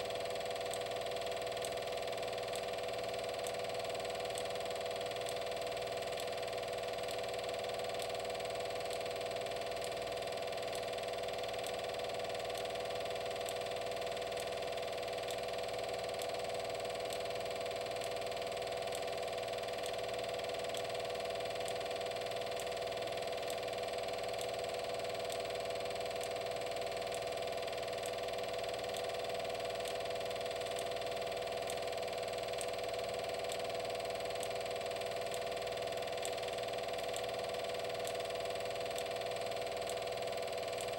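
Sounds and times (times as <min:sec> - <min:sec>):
mechanical hum: 0:00.0 - 0:40.9
faint ticks: 0:00.2 - 0:40.9.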